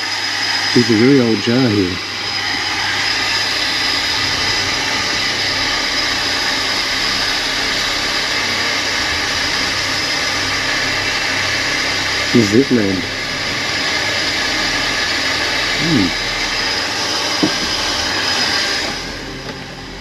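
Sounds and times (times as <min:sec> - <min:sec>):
electric water pump running: 0:00.0 - 0:20.0
water spraying from leak: 0:00.0 - 0:20.0.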